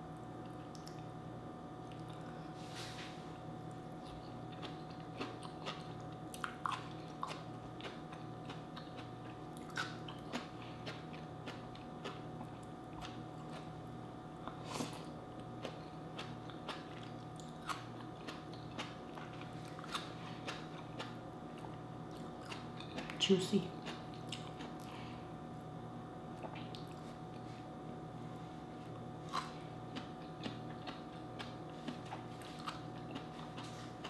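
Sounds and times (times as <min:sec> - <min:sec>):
faint steady hum: 0:00.0 - 0:34.0
chewing and crunching: 0:00.1 - 0:01.1, 0:01.8 - 0:02.8, 0:03.6 - 0:25.3, 0:26.3 - 0:27.6, 0:28.8 - 0:34.0.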